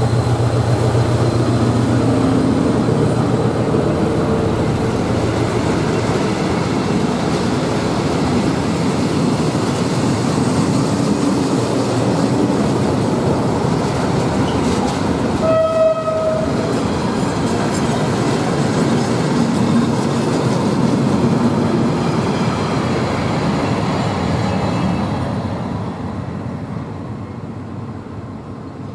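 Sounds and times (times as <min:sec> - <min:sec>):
train wagons rolling on rails: 0:00.0 - 0:28.9.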